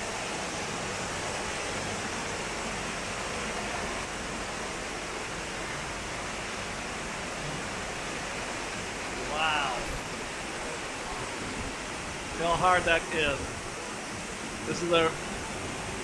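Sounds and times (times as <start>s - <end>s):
heavy rain on paved street: 0.0s - 16.0s.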